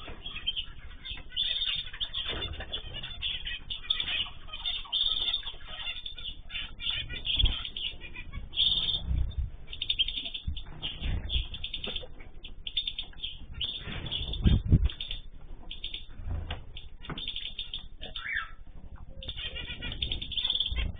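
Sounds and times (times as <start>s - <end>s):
cage birds chirping: 0.0s - 20.9s.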